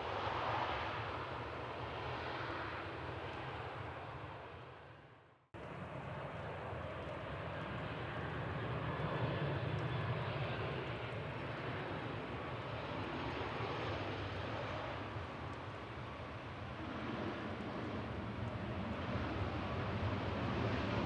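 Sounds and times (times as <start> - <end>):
jet airliner engines rumbling: 0.0 - 5.0, 5.6 - 21.0.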